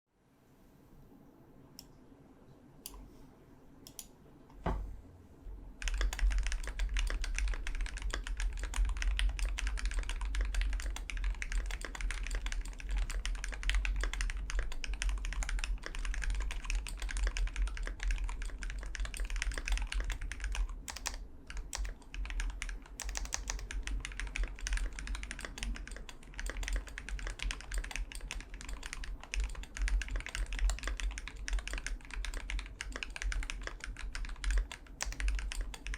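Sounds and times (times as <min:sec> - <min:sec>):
keyboard typing clatter: 0:05.8 - 0:35.9.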